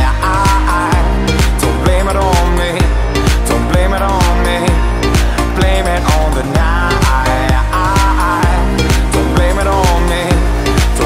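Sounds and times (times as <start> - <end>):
pop music with steady beat: 0.0 - 11.0.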